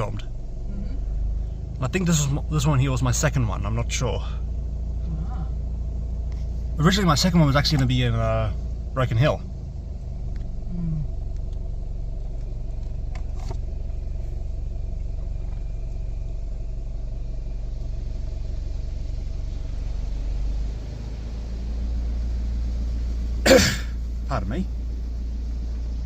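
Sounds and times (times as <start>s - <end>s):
car wash mechanical rumble: 0.0s - 26.0s.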